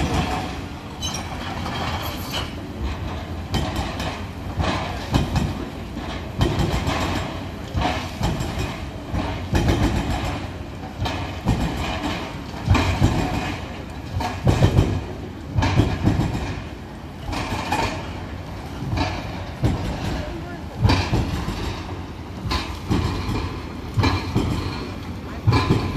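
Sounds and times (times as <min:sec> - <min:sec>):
excavator engine running: 0:00.0 - 0:25.9.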